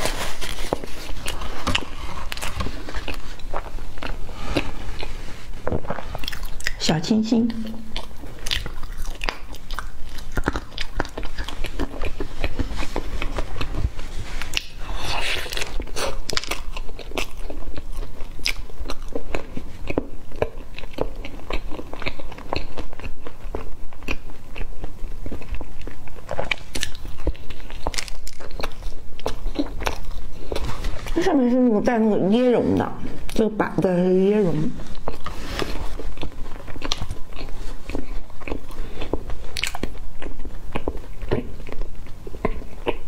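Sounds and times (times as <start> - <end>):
person chewing doughnut: 0.0 - 6.9, 7.6 - 31.2, 34.7 - 43.0.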